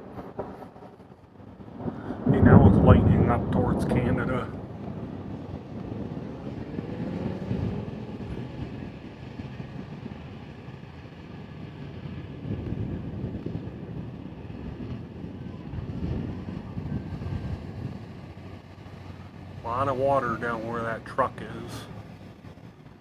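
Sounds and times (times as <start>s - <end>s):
rain: 0.0s - 23.0s
wind: 0.0s - 23.0s.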